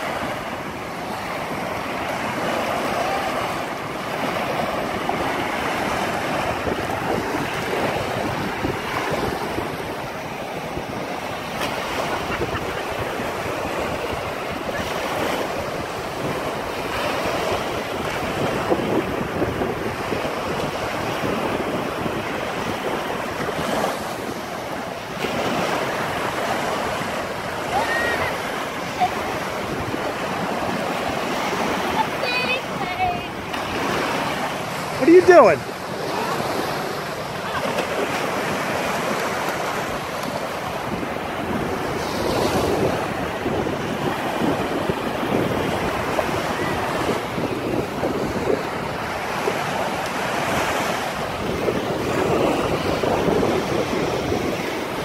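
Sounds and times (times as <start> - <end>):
small waves washing on sand: 0.0 - 55.0
wind buffeting microphone: 0.0 - 55.0.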